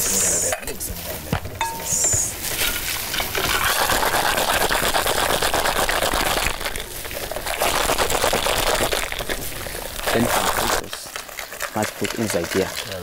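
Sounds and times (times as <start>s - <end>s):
hands mixing meat with spices: 1.0s - 13.0s.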